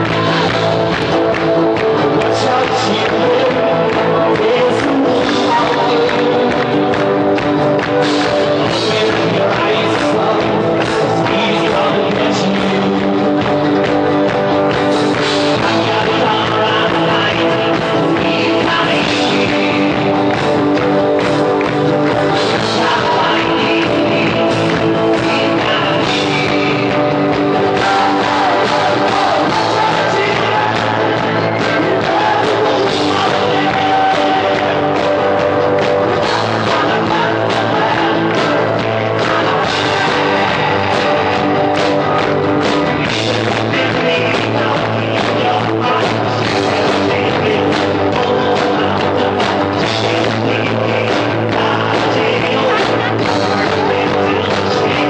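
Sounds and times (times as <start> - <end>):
live rock band: 0.0 - 55.0
person singing: 0.0 - 55.0.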